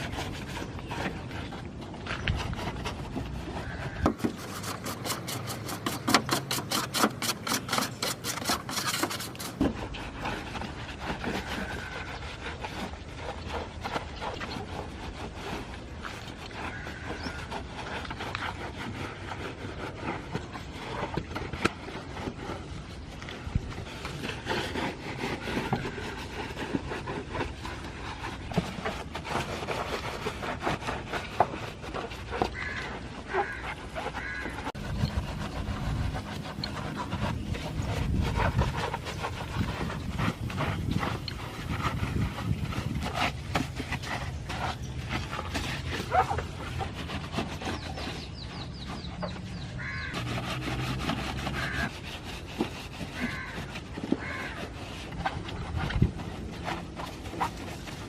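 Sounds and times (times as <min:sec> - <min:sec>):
brush scrubbing engine bay: 0:00.0 - 0:58.0.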